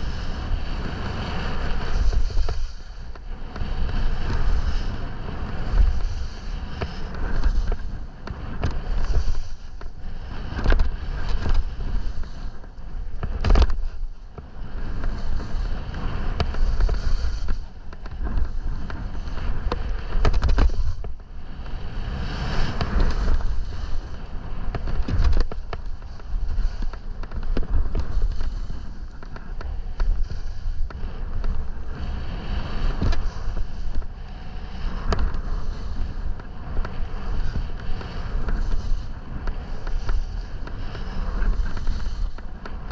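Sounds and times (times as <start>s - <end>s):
skis hissing through snow: 0.0s - 27.0s, 27.7s - 42.9s
wind buffeting microphone: 0.0s - 42.9s.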